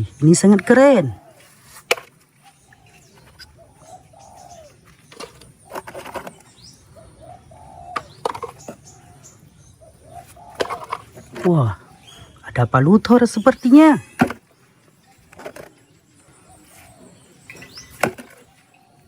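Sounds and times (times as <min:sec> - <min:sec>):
doves cooing: 0:00.0 - 0:19.0.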